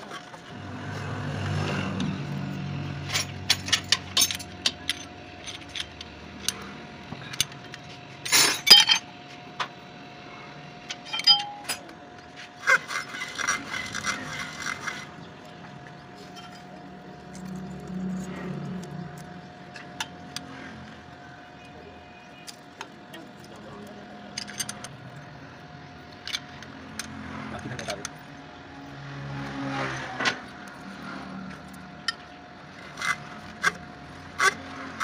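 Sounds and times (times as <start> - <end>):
metal tools clinking on engine: 2.2 - 9.8, 10.8 - 20.5, 22.0 - 28.4, 30.3 - 35.0.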